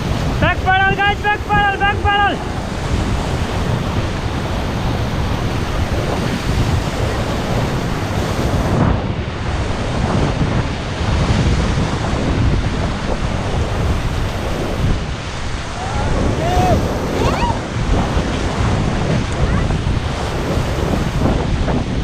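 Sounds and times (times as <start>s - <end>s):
whitewater rushing: 0.0s - 22.0s
wind buffeting microphone: 0.0s - 22.0s.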